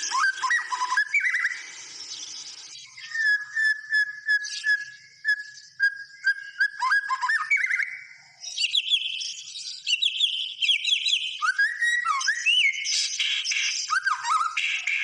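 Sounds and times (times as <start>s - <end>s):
songbird whistling song: 0.0s - 15.0s.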